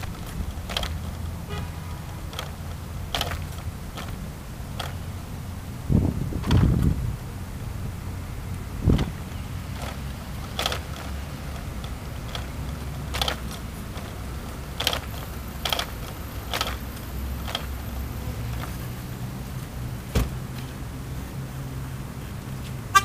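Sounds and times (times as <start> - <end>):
bicycle clicks and rattles: 0.0 - 5.4, 6.3 - 7.2, 8.5 - 20.8.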